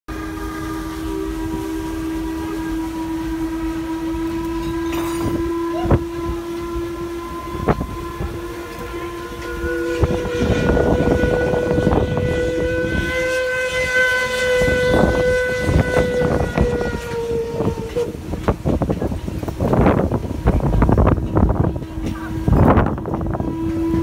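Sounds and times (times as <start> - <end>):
high steam whistle with hiss: 0.1 - 24.0
low steam whistle blowing: 0.1 - 24.0.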